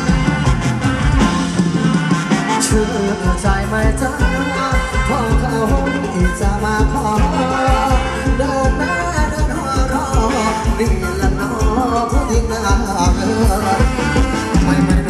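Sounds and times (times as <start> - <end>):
live band dance music: 0.0 - 15.0
person singing: 2.4 - 15.0.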